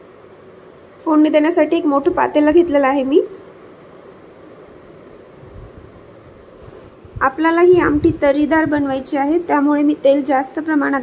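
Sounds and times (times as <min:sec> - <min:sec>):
faint room noise hiss: 0:00.0 - 0:11.0.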